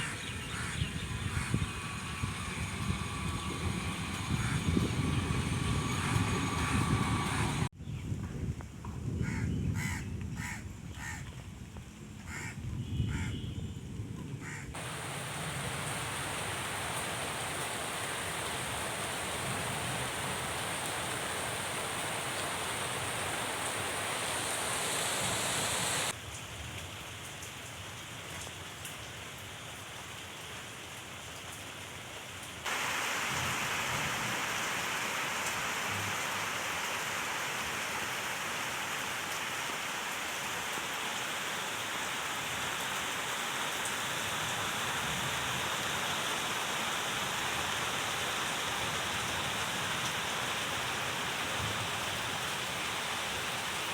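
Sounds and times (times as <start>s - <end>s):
steady rain falling: 0.0s - 7.7s, 14.8s - 53.9s.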